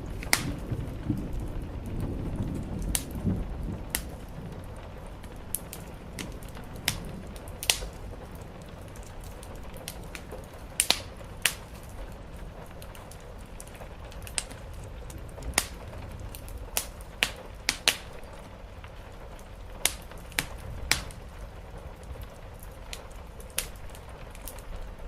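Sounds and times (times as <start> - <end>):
rain rushing: 0.0 - 25.0
wood fire crackling: 0.0 - 25.0.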